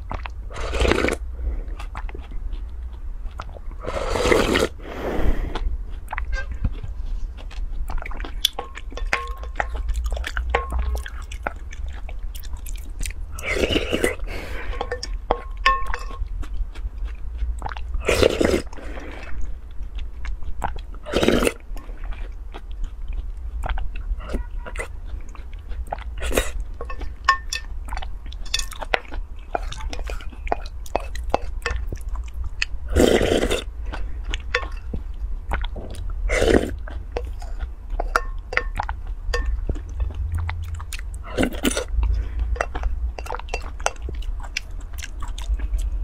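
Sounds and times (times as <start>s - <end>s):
wet chewing: 0.0s - 46.0s.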